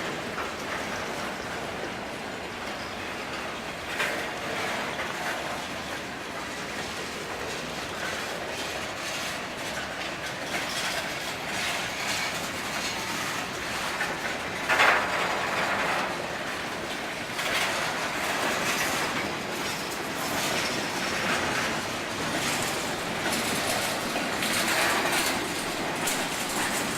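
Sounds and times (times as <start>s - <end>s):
train wheels clattering on rails: 0.0s - 26.9s.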